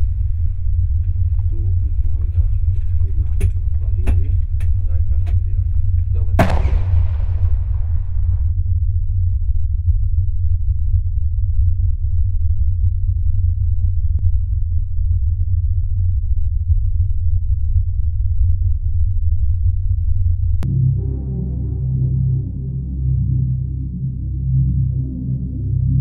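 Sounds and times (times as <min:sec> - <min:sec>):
deep low drone: 0:00.0 - 0:26.0.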